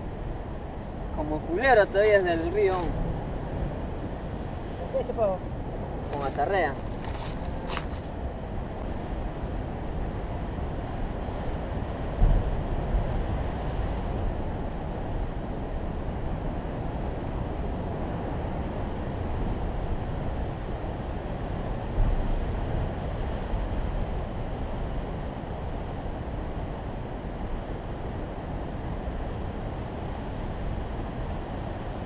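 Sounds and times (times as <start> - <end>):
sea surf against rocks: 0.0 - 32.0.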